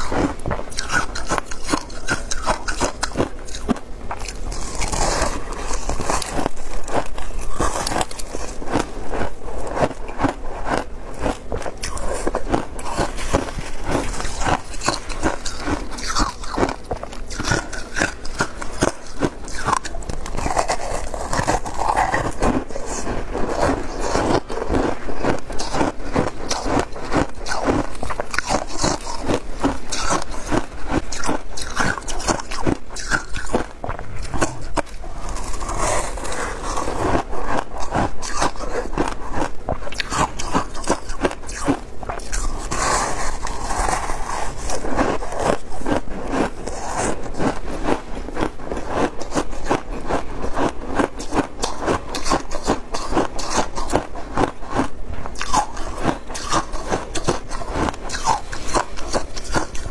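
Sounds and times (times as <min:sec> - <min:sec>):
crunching shaved ice: 0:00.0 - 0:59.9.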